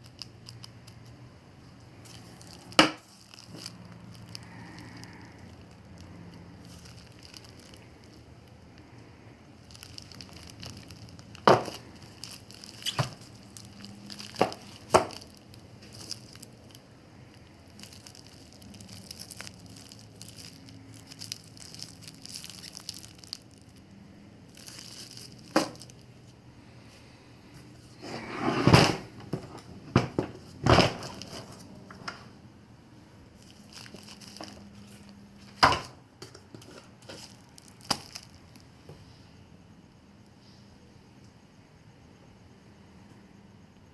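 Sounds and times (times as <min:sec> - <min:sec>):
crinkling: 0:00.0 - 0:32.4, 0:33.2 - 0:38.8.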